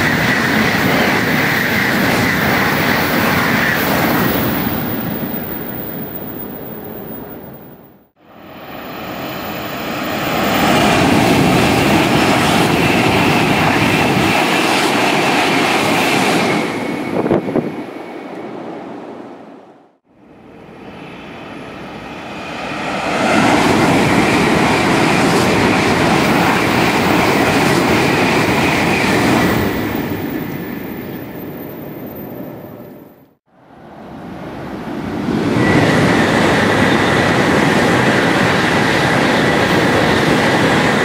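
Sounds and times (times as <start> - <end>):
bullet trains passing at high speed: 0.0 - 41.0.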